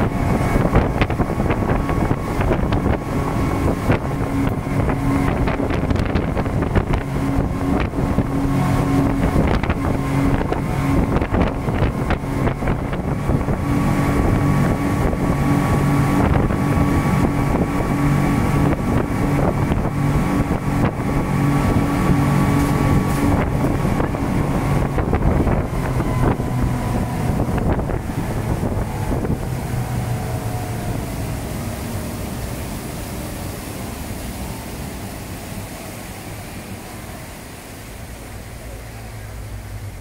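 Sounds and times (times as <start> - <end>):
speedboat engines running: 0.0 - 40.0
water noise: 0.0 - 40.0
wind: 0.0 - 40.0.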